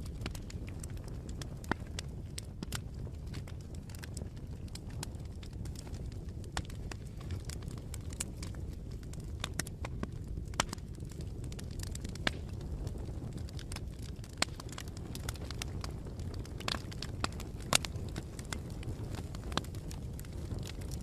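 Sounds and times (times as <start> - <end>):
low rumble of flames: 0.0 - 21.0
wood crackling and popping: 0.0 - 21.0.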